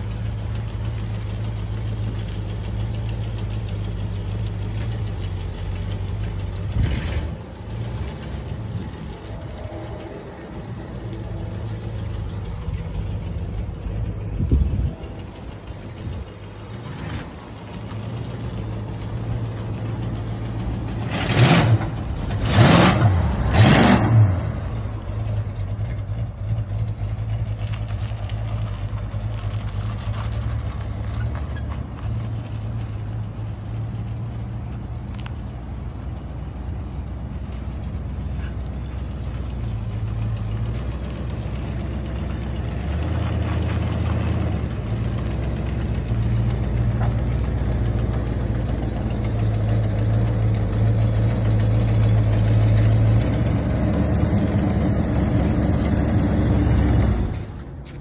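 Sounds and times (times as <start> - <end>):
car engine revving and idling: 0.0 - 58.0.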